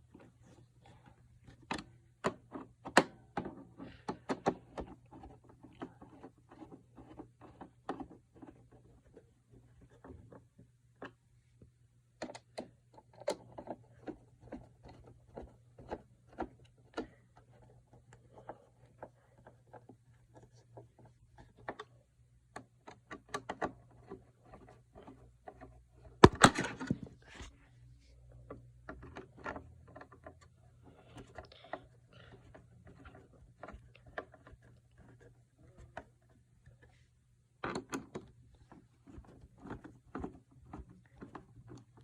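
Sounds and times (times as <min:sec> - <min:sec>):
hands handling plastic parts: 0:00.0 - 0:42.0.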